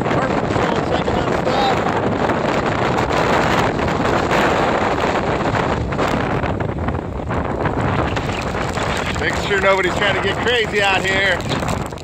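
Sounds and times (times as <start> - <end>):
storm wind on microphone: 0.0 - 12.0.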